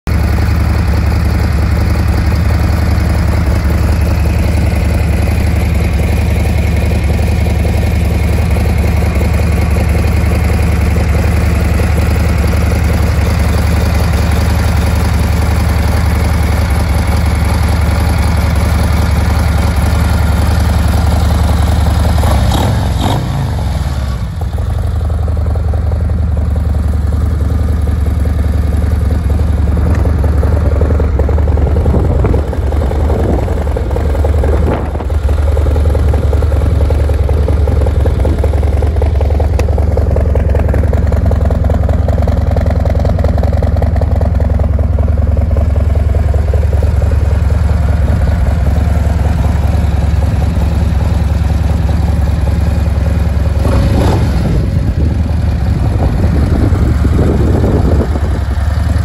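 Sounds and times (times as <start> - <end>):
motorcycle engine idling: 0.1 - 59.0.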